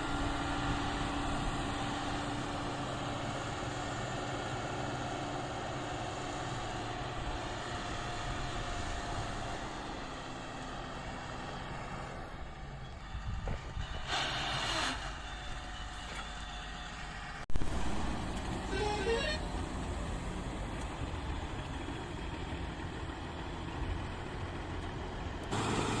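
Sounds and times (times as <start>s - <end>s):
heavy diesel machinery rumbling: 0.0s - 26.0s.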